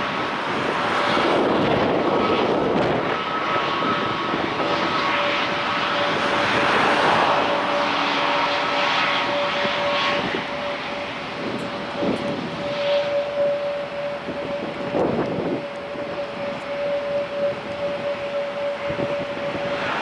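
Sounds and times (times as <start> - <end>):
jet engines whining: 0.0 - 20.0.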